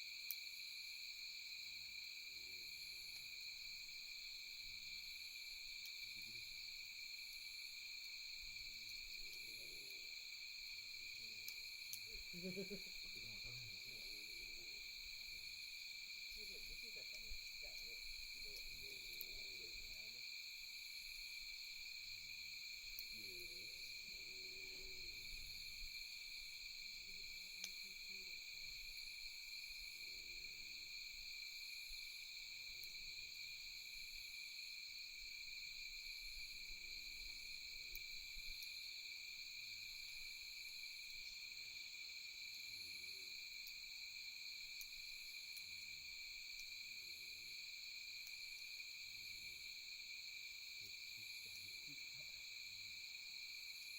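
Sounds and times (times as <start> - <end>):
night insects trilling: 0.0 - 53.9.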